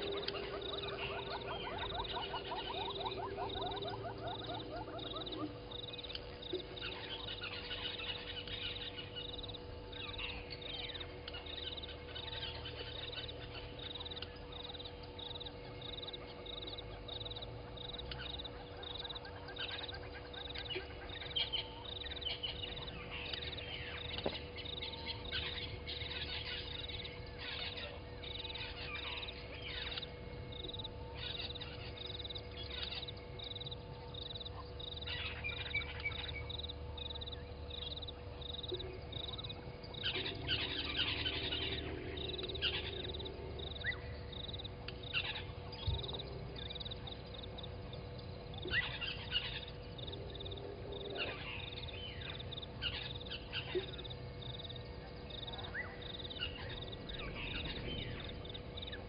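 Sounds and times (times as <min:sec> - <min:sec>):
birds calling and chirping: 0:00.0 - 0:59.0
faint steady hum: 0:00.0 - 0:59.0.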